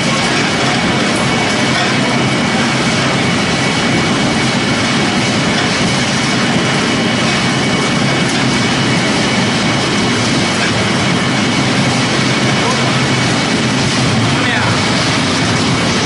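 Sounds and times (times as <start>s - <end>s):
pellet mill and conveyor running: 0.0s - 16.0s.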